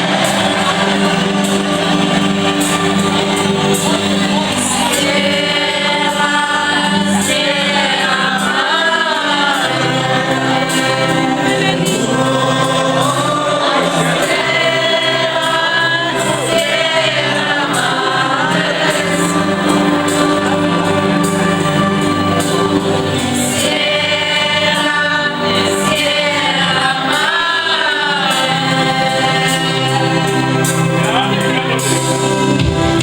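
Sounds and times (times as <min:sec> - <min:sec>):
held musical accompaniment: 0:00.0 - 0:33.0
several voices singing: 0:00.0 - 0:33.0.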